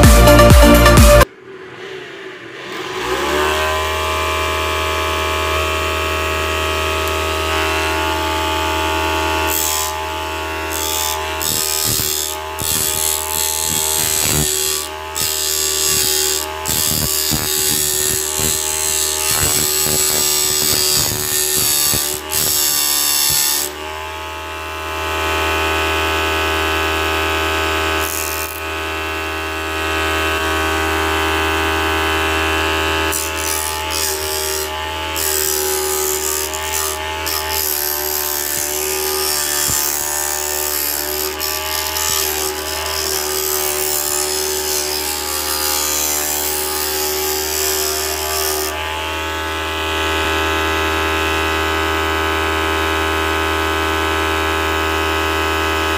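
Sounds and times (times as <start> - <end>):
motor whine: 0.0 - 55.9
sanding disc grinding rasp: 3.1 - 50.8.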